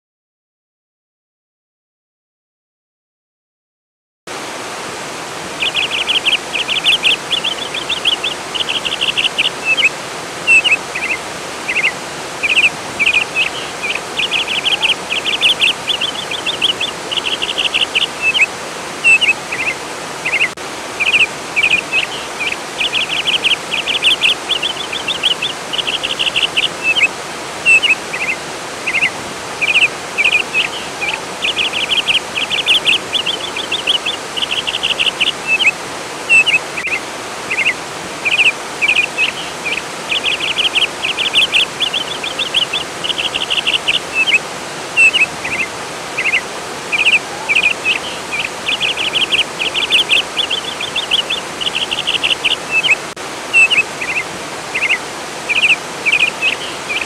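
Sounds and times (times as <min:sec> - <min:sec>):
flowing water rushing: 0:04.3 - 0:57.0
songbird trilling chirps: 0:05.6 - 0:44.4, 0:45.0 - 0:57.0.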